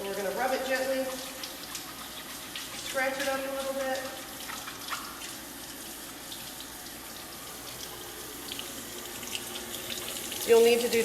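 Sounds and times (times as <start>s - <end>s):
tap water splashing: 0.7s - 6.7s, 7.6s - 11.0s.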